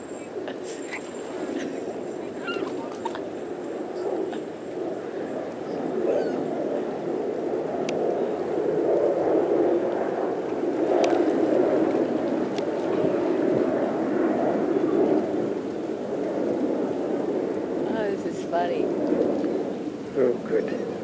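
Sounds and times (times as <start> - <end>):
surf washing on beach: 0.0 - 21.0.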